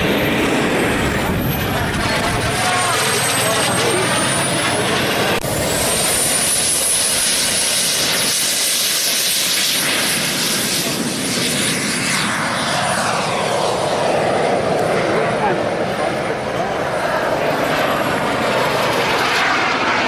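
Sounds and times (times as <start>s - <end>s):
model aircraft engines running: 0.0s - 20.0s.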